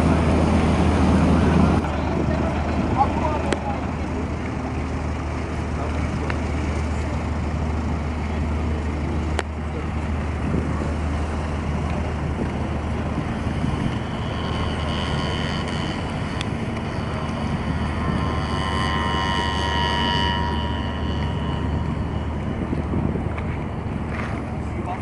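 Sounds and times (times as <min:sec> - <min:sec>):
high mechanical whine: 0:00.0 - 0:25.0
ship engine humming: 0:00.0 - 0:25.0.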